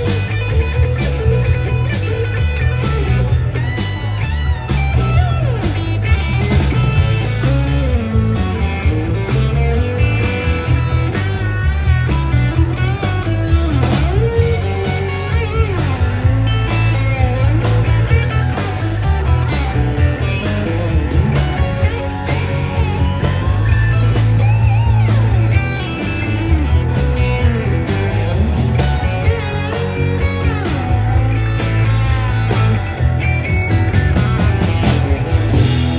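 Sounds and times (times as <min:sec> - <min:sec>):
guitar-led rock music: 0:00.0 - 0:35.9
steady bass line: 0:00.0 - 0:35.9.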